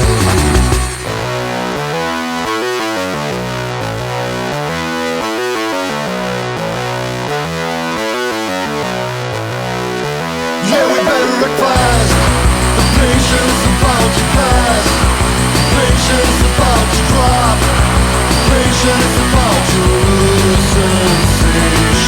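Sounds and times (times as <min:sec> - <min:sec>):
synthesizer chords: 0:00.0 - 0:22.0.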